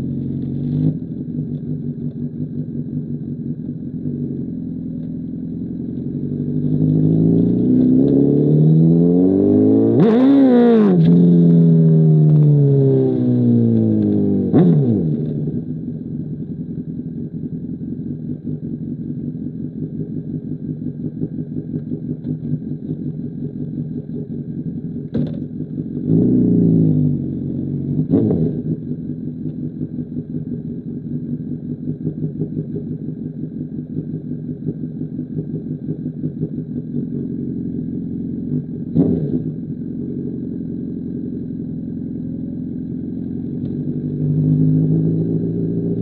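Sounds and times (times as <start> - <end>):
motorcycle engine idling: 0.0 - 8.1, 13.5 - 46.0.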